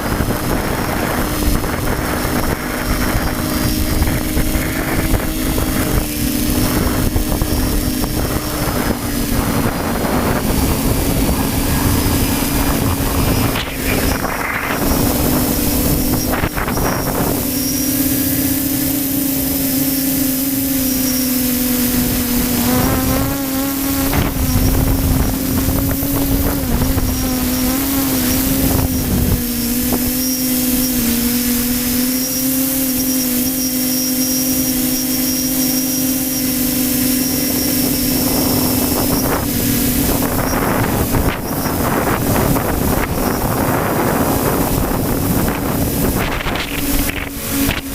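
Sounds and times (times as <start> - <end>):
model aircraft motor drone: 0.0 - 47.9
wind rumbling on microphone: 0.0 - 47.9.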